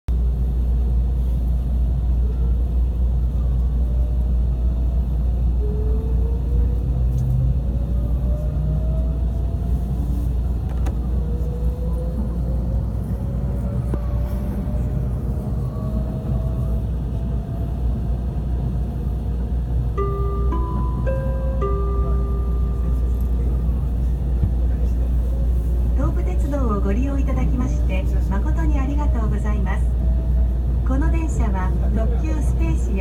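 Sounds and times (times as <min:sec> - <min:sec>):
train cabin rumble: 0:00.1 - 0:33.0.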